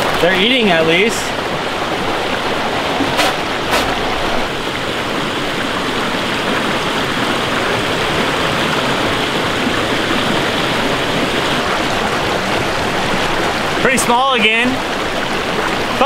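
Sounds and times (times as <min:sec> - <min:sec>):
stream running over boulders: 0:00.0 - 0:16.0.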